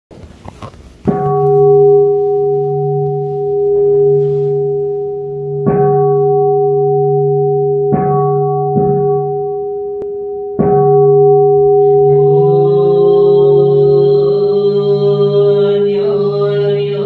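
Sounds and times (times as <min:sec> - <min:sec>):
bowl bell ringing: 0:01.0 - 0:17.0.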